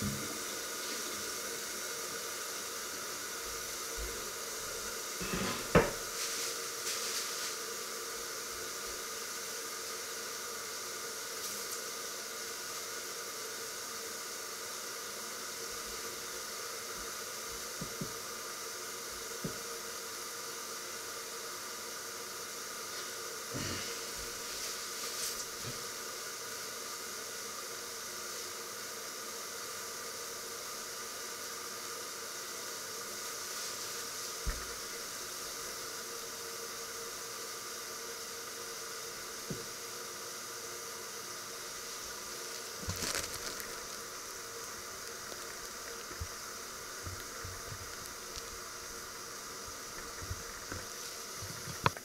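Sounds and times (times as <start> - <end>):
food hissing in pots: 0.0 - 52.0.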